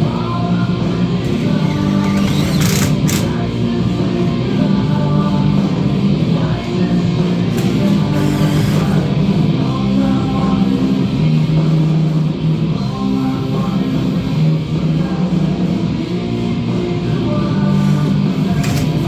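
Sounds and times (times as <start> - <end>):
rock music on radio: 0.0 - 19.0.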